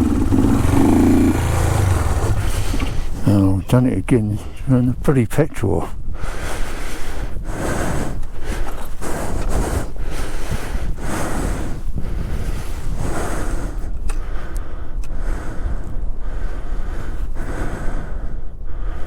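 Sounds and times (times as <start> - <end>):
heavy breathing: 0.0 - 4.8, 5.8 - 19.0
wind noise: 0.0 - 19.0.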